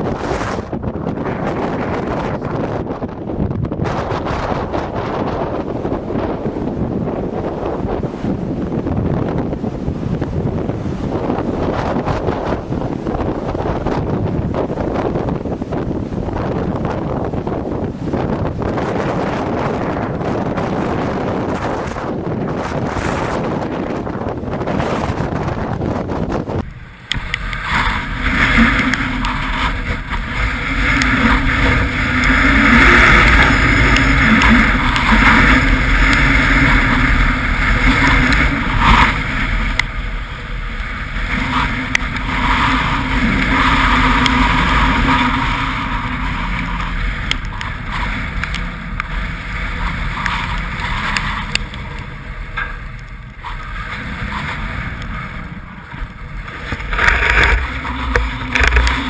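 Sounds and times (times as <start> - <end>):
wind gusts buffeting microphone: 0.0 - 59.0.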